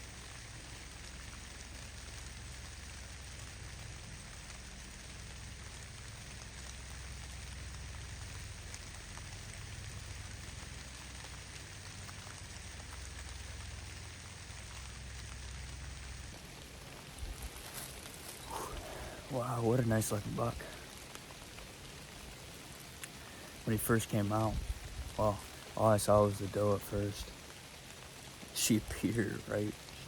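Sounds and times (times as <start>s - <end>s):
falling snow patter: 0.0s - 30.0s.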